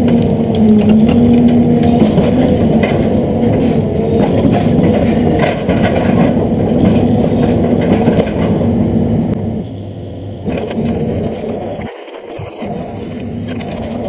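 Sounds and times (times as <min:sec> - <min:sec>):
excavator diesel engine under load: 0:00.0 - 0:14.0.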